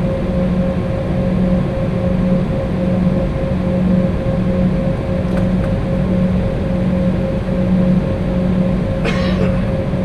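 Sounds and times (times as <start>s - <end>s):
jet engines humming in cabin: 0.0s - 10.0s.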